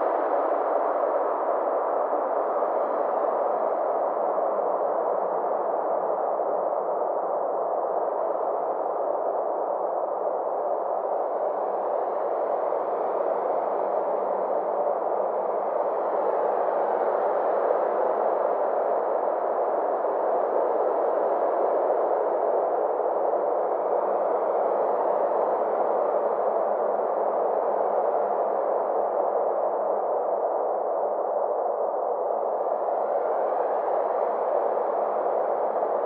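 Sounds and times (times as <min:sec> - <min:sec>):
synthesized filtered noise drone: 0:00.0 - 0:36.0.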